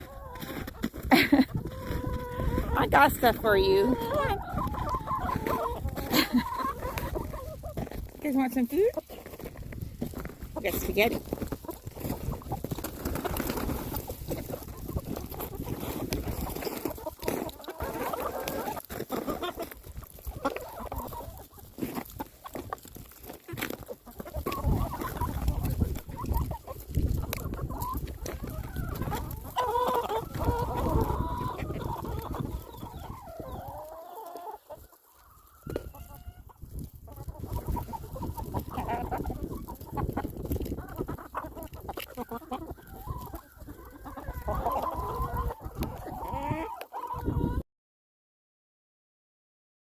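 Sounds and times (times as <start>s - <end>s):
chickens clucking: 0.0s - 47.6s.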